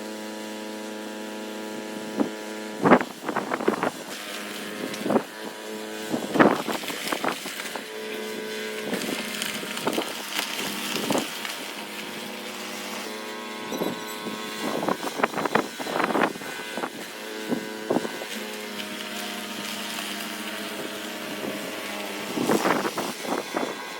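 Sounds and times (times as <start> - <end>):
snowblower engine running: 0.0 - 23.9.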